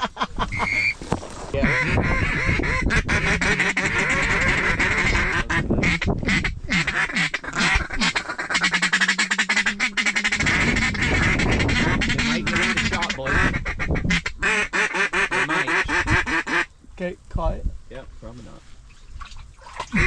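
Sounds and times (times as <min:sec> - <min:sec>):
duck quacking rapidly: 0:00.0 - 0:01.0, 0:01.6 - 0:16.7.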